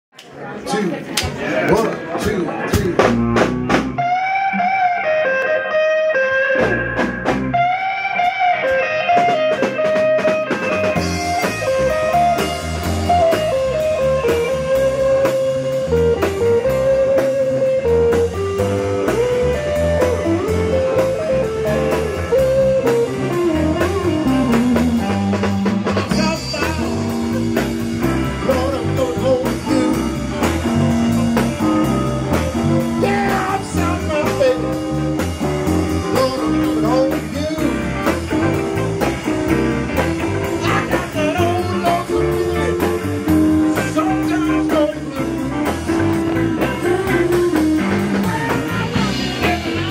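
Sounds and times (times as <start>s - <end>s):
bass guitar: 1.2s - 49.9s
electric guitars: 1.2s - 49.9s
drum kit and cymbals: 2.2s - 4.8s, 6.6s - 49.9s.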